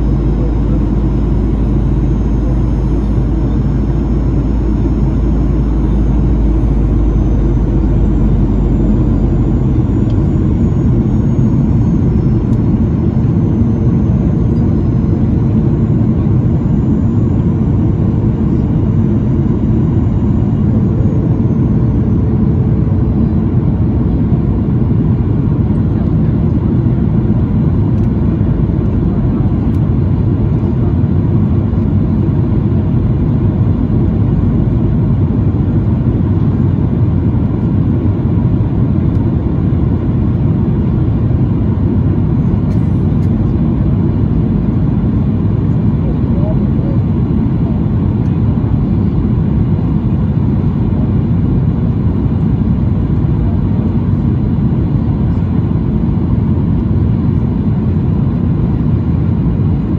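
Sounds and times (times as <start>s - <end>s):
airplane cabin airflow rush: 0.0s - 59.9s
faint high engine whine: 0.0s - 59.9s.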